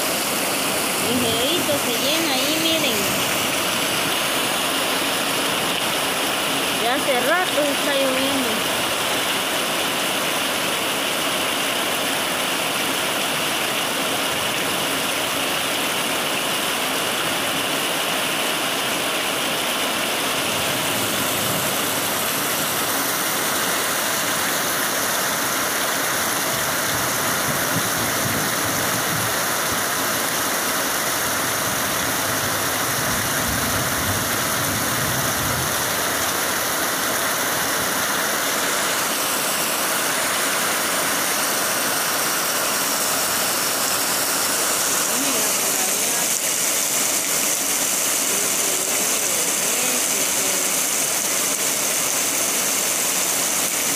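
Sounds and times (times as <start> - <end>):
heavy rain splashing into puddles: 0.0 - 53.9.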